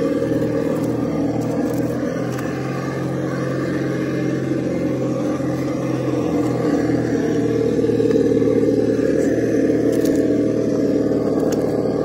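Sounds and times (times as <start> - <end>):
simulated engine sound: 0.0 - 12.0.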